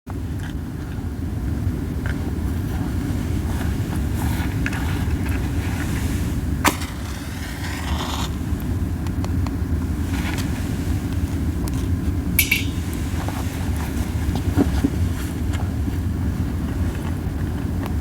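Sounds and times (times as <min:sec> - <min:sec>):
campfire flames rumbling: 0:00.2 - 0:18.0
fire crackles: 0:00.4 - 0:18.0.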